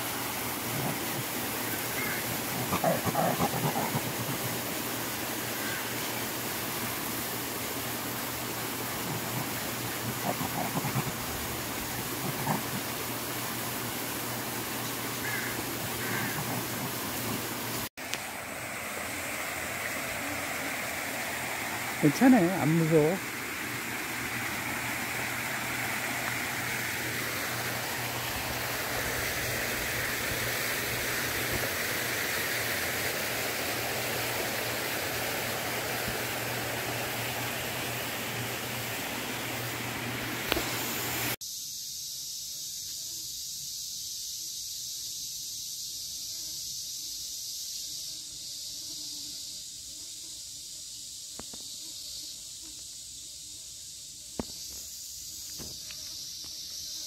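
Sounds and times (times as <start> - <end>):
rushing hiss with low hum: 0.0 - 48.7, 49.3 - 57.0
insect chorus: 0.0 - 57.0.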